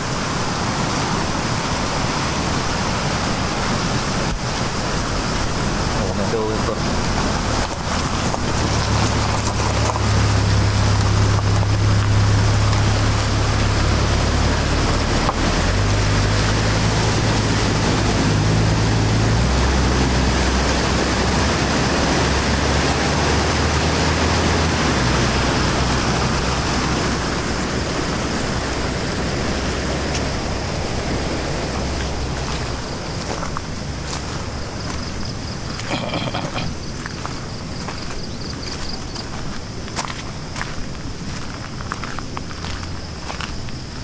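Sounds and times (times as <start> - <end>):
car engine running at low revs: 0.0 - 44.0
river rushing: 0.0 - 44.0.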